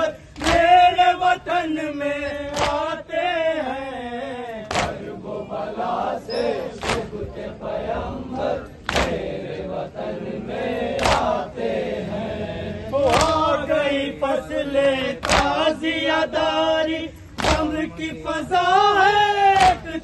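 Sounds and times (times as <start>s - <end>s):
crowd chanting together: 0.0s - 20.0s.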